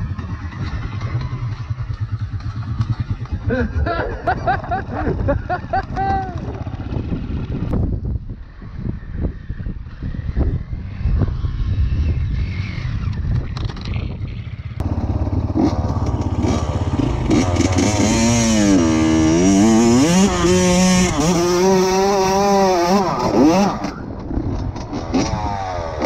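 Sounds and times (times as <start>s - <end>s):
motorcycle engine revving: 0.0s - 5.0s, 9.9s - 26.0s
rough low rumble with clatter: 0.0s - 21.2s, 23.8s - 26.0s.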